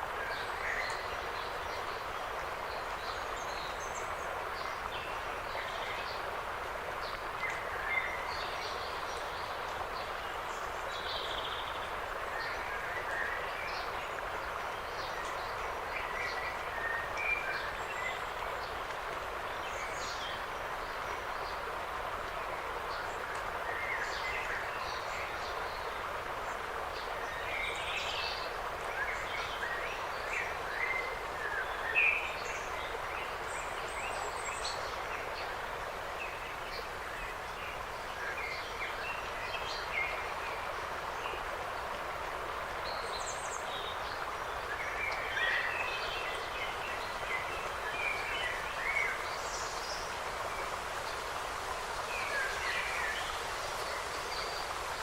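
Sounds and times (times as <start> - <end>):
wind rushing through trees: 0.0 - 55.0.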